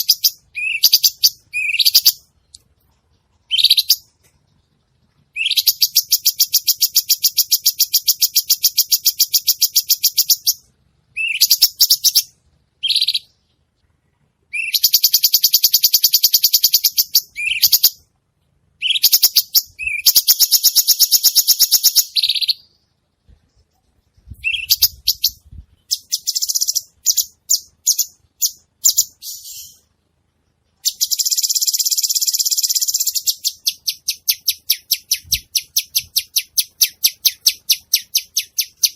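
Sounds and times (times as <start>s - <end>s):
songbird singing rapid trills: 0.0s - 2.6s, 3.4s - 4.2s, 5.2s - 13.4s, 14.5s - 18.0s, 18.8s - 22.9s, 24.2s - 29.9s, 30.8s - 38.9s.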